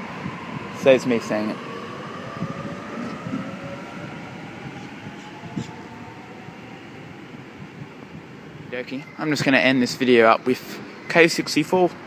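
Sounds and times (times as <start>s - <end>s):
train rumble: 0.0s - 10.8s.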